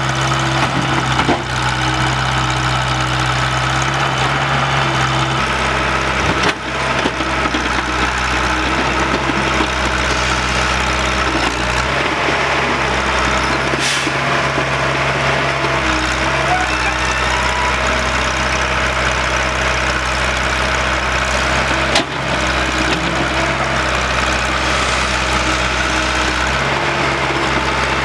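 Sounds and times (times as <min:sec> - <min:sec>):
heavy diesel engines running: 0:00.0 - 0:28.0.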